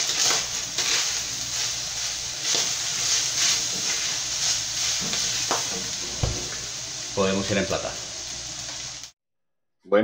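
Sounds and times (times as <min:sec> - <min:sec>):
meat sizzling in a skillet: 0:00.0 - 0:09.2.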